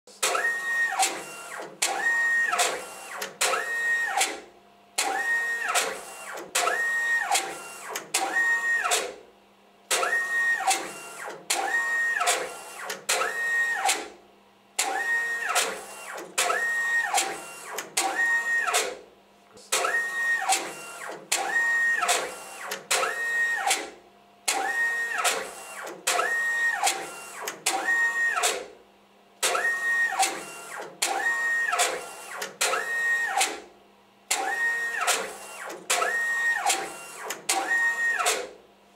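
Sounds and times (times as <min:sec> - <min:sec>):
motor whine of print head carriage: 0:00.2 - 0:09.2, 0:09.9 - 0:14.2, 0:14.8 - 0:19.0, 0:19.6 - 0:23.9, 0:24.5 - 0:28.8, 0:29.4 - 0:33.7, 0:34.3 - 0:38.6.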